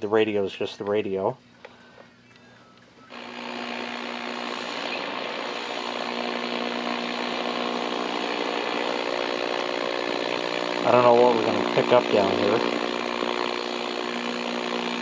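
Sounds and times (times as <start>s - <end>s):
radio static hiss with buzz: 1.0s - 15.0s.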